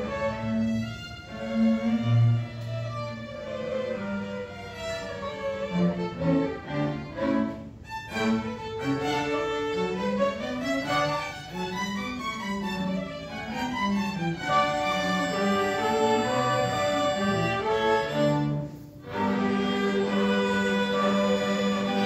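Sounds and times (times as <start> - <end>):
string ensemble playing: 0.0 - 22.0.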